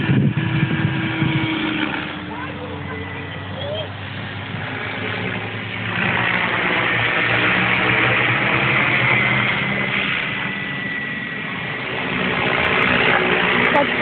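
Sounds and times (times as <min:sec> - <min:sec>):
model helicopter rotor hum and whine: 0:00.0 - 0:14.0.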